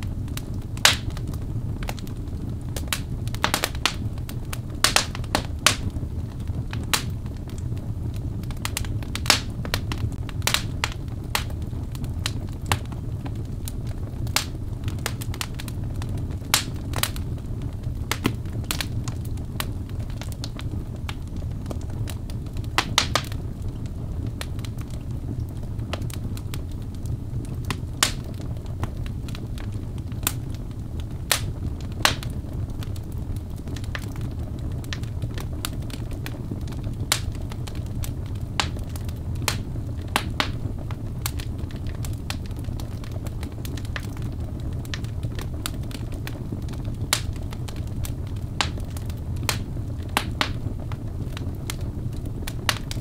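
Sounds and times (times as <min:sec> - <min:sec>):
log fire crackling: 0:00.0 - 0:53.0
low rumble of burning: 0:00.0 - 0:53.0.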